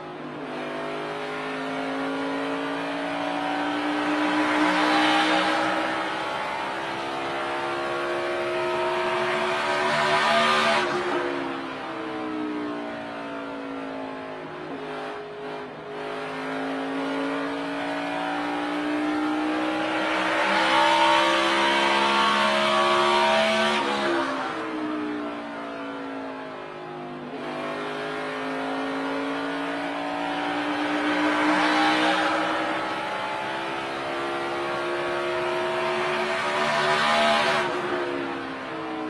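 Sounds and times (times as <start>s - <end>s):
race car engine: 0.0s - 39.0s.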